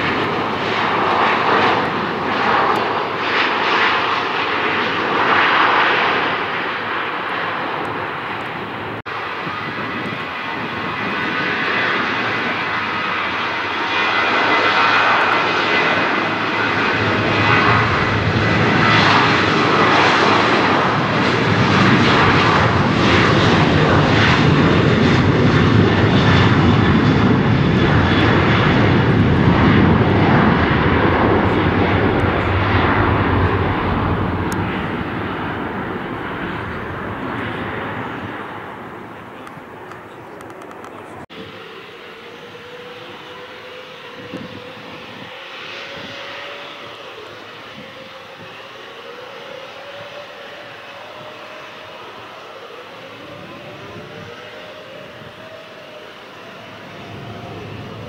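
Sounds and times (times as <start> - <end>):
aircraft engines running: 0.0 - 58.0.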